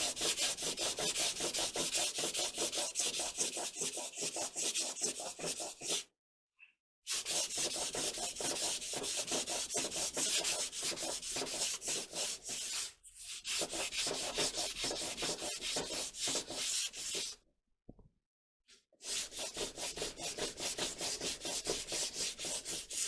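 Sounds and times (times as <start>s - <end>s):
hand sanding with sandpaper: 0.0s - 6.0s, 7.1s - 17.4s, 19.0s - 23.0s.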